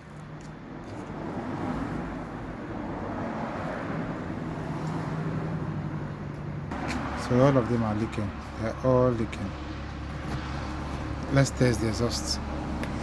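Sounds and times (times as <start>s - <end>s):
road traffic noise: 0.0s - 13.0s
vehicle engine humming: 0.0s - 13.0s.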